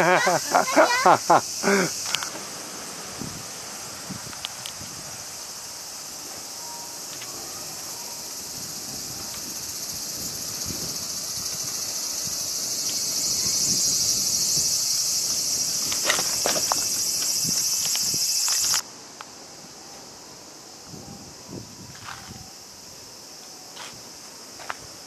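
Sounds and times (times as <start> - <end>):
cicadas buzzing: 0.0 - 25.0.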